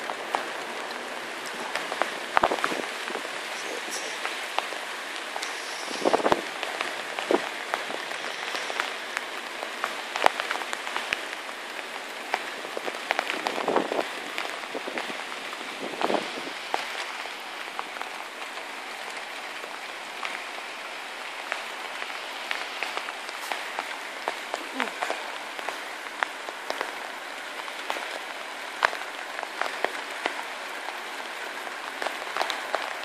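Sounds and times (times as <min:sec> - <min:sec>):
raindrops ticking close by: 0:00.0 - 0:33.0
steady rain falling: 0:00.0 - 0:33.0.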